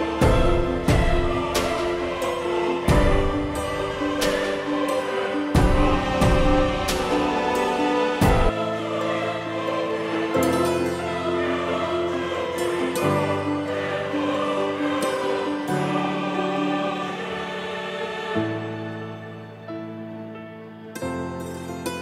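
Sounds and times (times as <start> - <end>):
slow choir-like music: 0.0 - 22.0.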